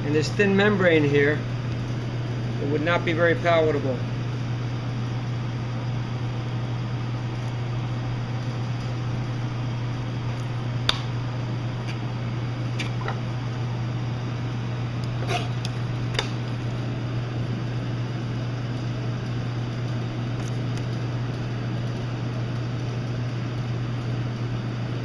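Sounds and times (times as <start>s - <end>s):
low machine hum with hiss: 0.0s - 25.0s.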